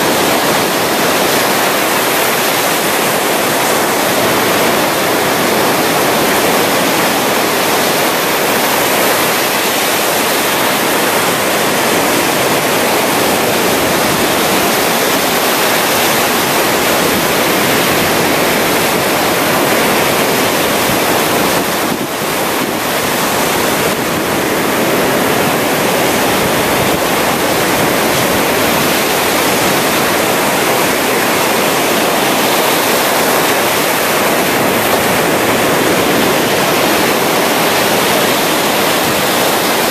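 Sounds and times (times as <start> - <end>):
ocean surf breaking on beach: 0.0 - 39.9
wind on the microphone: 0.0 - 39.9.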